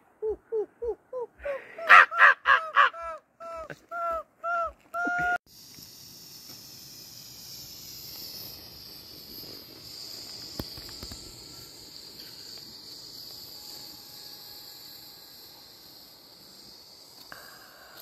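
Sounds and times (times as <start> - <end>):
crickets chirring: 1.2 - 18.0.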